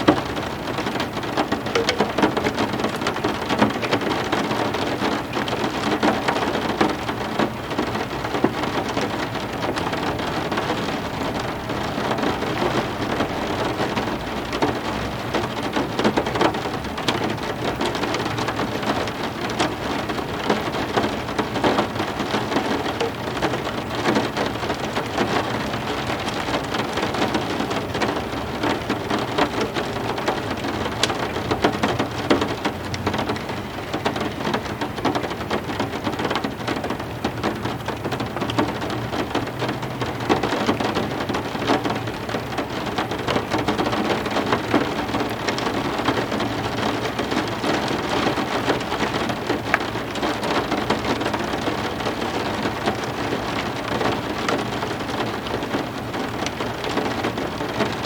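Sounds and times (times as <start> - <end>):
heavy rain splashing: 0.0 - 58.0.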